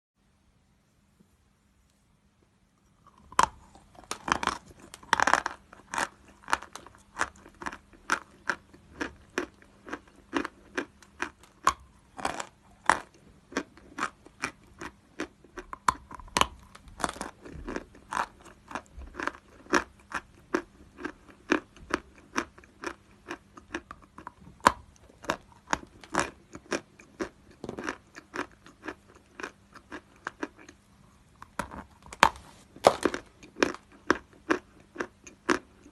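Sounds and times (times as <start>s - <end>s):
chalk crunching when chewed: 3.0s - 30.8s, 31.4s - 35.9s.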